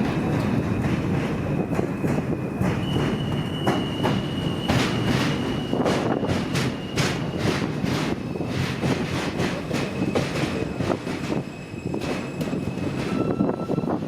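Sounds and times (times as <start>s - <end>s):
subway train wheels clacking: 0.0s - 14.0s
train rumble: 0.0s - 14.0s.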